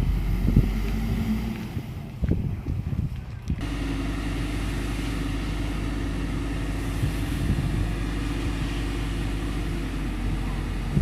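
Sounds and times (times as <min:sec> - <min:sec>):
fire engine engine droning: 0:00.0 - 0:11.0.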